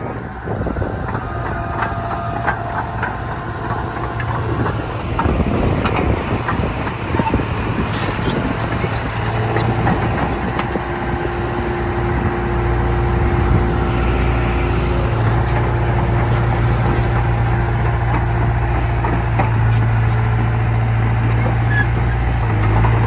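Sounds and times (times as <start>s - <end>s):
diesel machinery engine humming: 0.0s - 23.0s.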